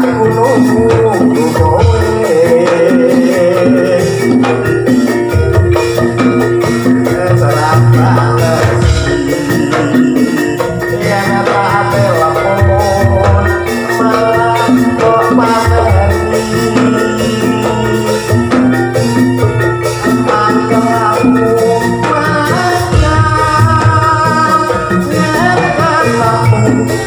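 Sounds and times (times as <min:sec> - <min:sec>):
drums: 0:00.0 - 0:27.0
metallophones ringing: 0:00.0 - 0:27.0.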